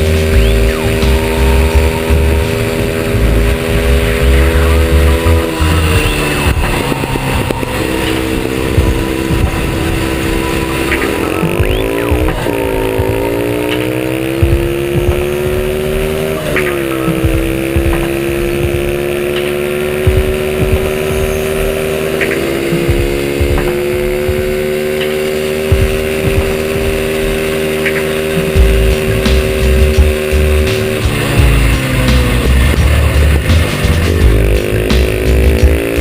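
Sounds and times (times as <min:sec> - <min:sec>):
small motorbike engine: 0:00.0 - 0:36.0.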